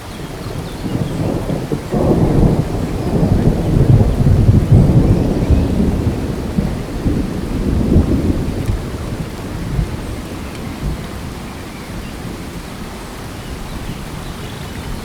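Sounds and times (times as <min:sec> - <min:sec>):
rain falling: 0:00.0 - 0:15.0
rolling thunder rumble: 0:00.0 - 0:15.0.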